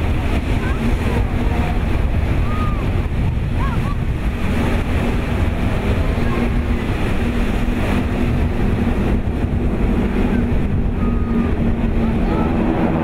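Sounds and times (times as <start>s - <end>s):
propeller aircraft drone: 0.0s - 13.0s
wind rumble on microphone: 0.0s - 13.0s.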